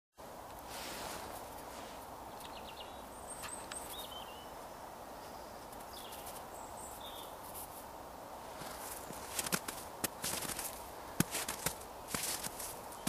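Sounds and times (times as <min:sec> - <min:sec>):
steady outdoor hiss: 0:00.2 - 0:13.0
small birds chirping: 0:01.3 - 0:07.8, 0:08.6 - 0:13.0.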